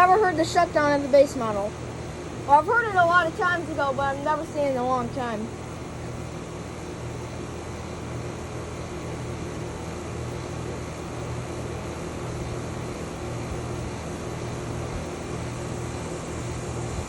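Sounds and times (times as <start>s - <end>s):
air conditioner condenser fan rushing: 0.0s - 17.0s.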